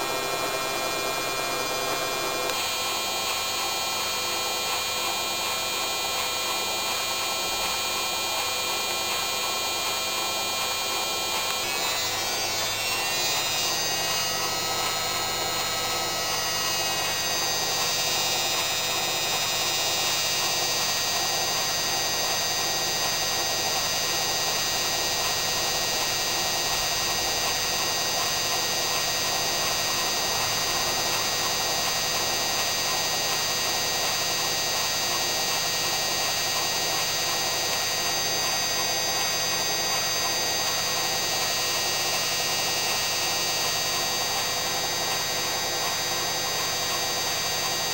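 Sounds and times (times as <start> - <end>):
washing machine spinning: 0.0 - 47.9.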